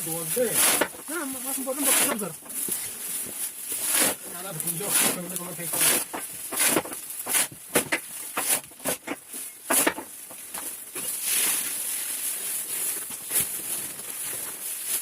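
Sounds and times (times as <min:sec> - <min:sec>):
grass rustling: 0:00.0 - 0:15.0.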